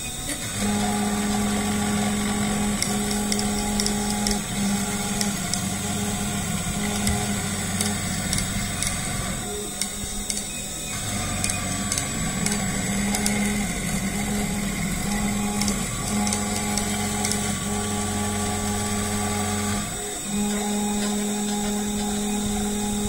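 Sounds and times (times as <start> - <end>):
milling machine motors whining: 0.0 - 23.0.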